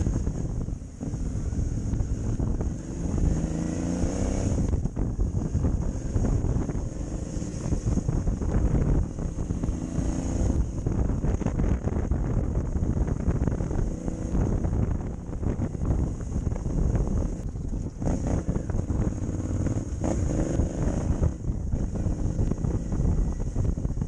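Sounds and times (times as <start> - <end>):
motorcycle engine: 0.0 - 24.0
wind on microphone: 0.0 - 24.0.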